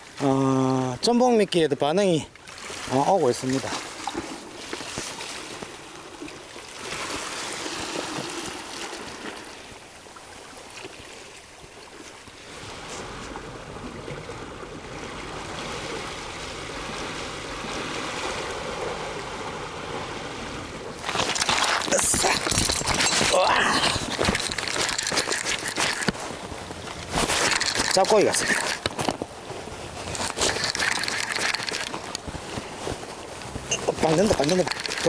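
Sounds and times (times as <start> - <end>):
seawater lapping on rocky shore: 0.0 - 35.0.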